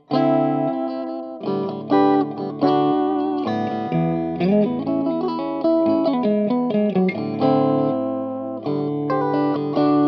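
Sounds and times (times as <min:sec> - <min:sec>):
clean electric guitar: 0:00.0 - 0:10.0.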